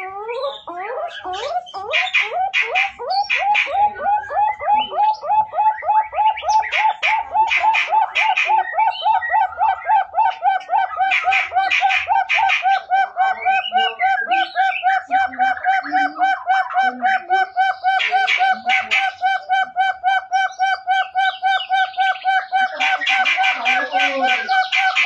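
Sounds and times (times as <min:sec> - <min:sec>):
partridge whistling calls: 0:00.0 - 0:25.0
rough higher bird calls: 0:00.0 - 0:25.0.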